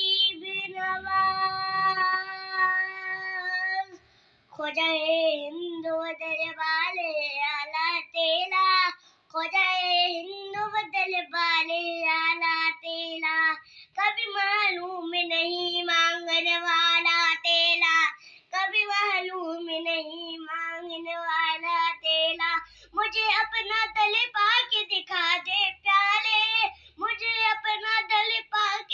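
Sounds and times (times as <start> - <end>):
boy singing unaccompanied: 0.0 - 28.9.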